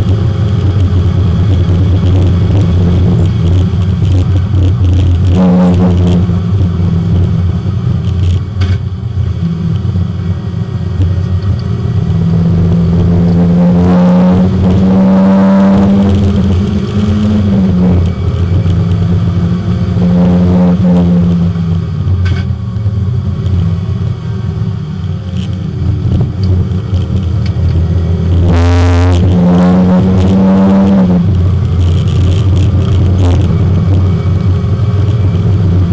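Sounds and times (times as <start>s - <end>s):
race car engine revving: 0.0s - 35.9s.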